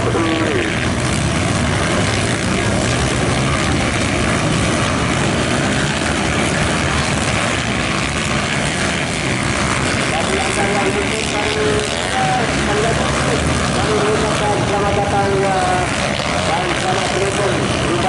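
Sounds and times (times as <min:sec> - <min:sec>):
dirt bike engines droning: 0:00.0 - 0:18.0.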